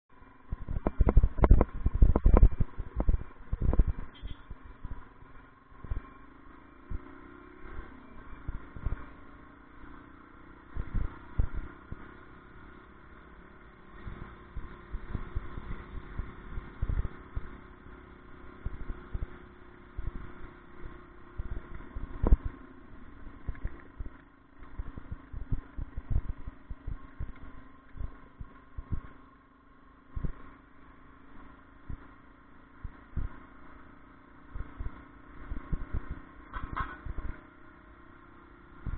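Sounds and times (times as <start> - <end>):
steady low hum: 0.1 - 38.9.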